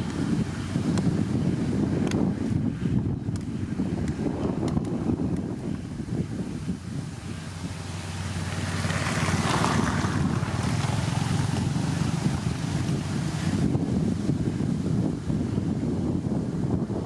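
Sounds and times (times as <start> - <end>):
diesel engine running: 0.0 - 16.2.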